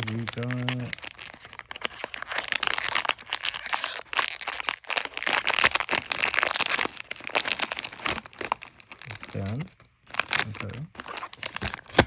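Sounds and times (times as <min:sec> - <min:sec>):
plastic wrapping crackling: 0:00.0 - 0:12.0.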